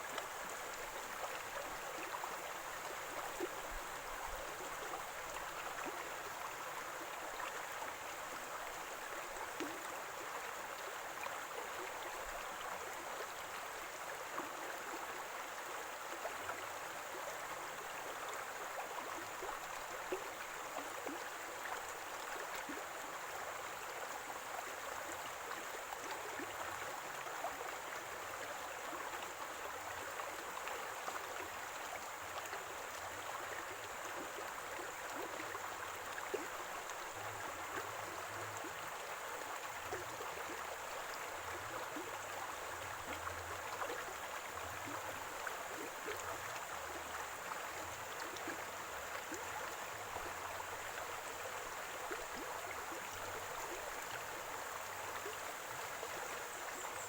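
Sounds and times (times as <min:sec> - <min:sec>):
stream gurgling and trickling: 0:00.0 - 0:57.0.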